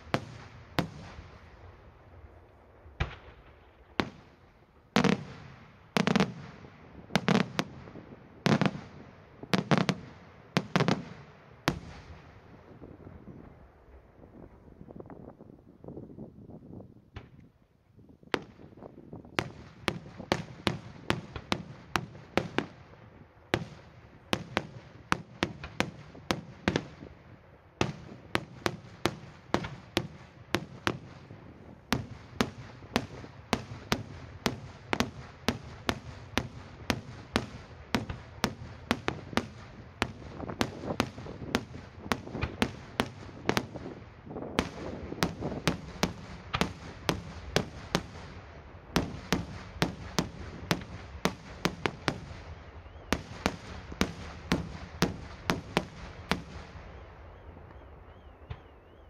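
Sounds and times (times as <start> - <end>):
fireworks bursting with sharp bangs: 0.0 - 15.3, 18.2 - 59.0.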